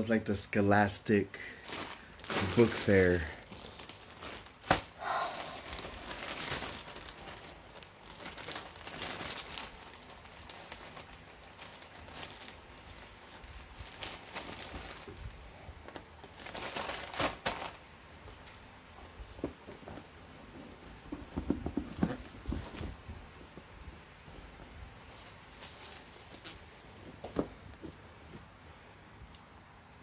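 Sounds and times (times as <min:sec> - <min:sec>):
plastic bag crinkling: 0:00.8 - 0:23.5, 0:24.1 - 0:27.4.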